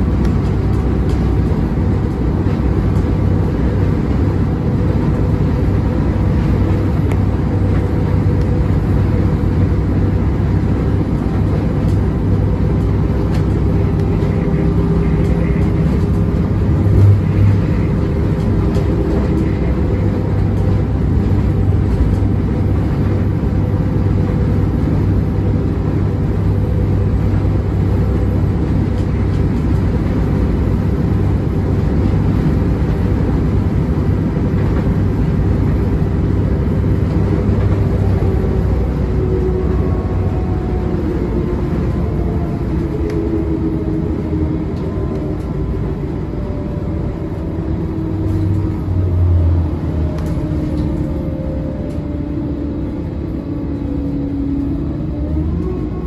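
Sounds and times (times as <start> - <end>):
faint whine: 0.0 - 55.2
bus engine rumble: 0.0 - 56.0
road noise: 0.0 - 56.0.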